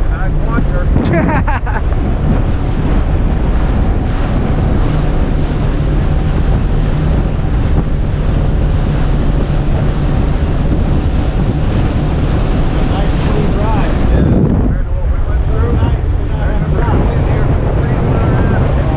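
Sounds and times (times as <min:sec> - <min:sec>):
low engine hum: 0:00.0 - 0:18.9
water rushing past hull: 0:00.0 - 0:18.9
wind buffeting microphone: 0:00.0 - 0:18.9.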